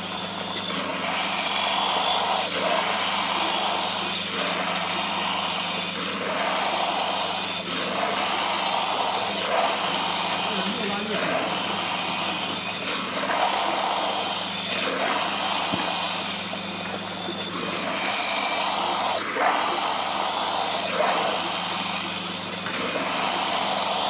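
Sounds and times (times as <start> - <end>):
grinding mill running: 0.0 - 24.0.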